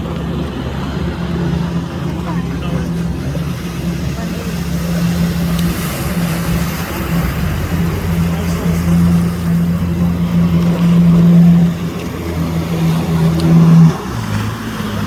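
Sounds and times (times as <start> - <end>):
motorboat engine: 0.0 - 15.0.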